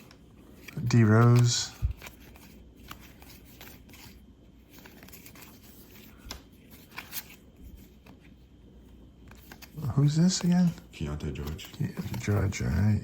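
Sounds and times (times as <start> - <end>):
cards rustling: 0.0 - 13.0.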